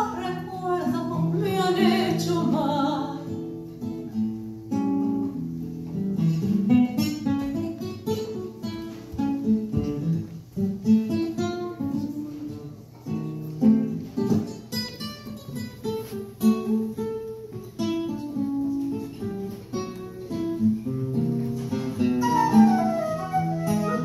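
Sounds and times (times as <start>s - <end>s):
classical guitar playing tango: 0.0s - 24.0s.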